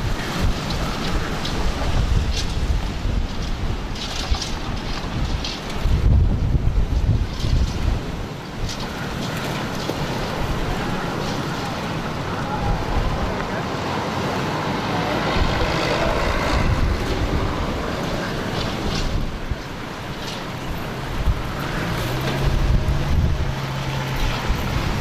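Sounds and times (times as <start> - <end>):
storm wind blowing hard: 0.0 - 25.0
wind buffeting microphone: 0.0 - 25.0.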